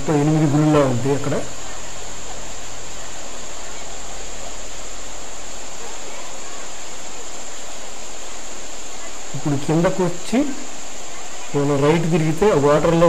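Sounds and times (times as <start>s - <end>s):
fast stream rushing: 0.0s - 13.0s
high-pitched whine: 0.0s - 13.0s.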